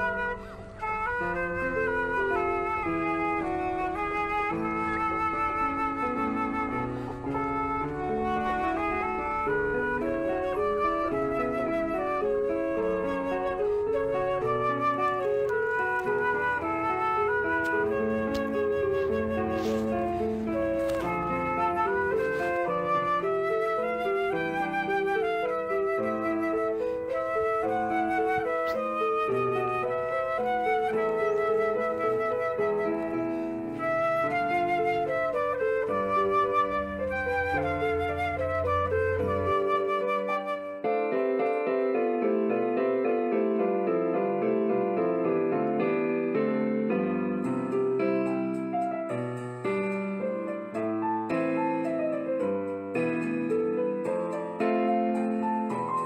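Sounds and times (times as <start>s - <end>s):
flute melody: 0.0s - 56.0s
piano music: 0.0s - 56.0s
soft accompaniment: 0.0s - 56.0s.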